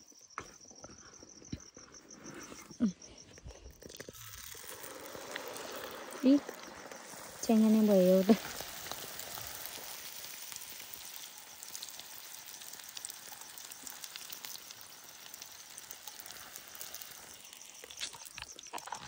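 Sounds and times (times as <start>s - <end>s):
bread deep-frying in oil: 3.6s - 19.0s.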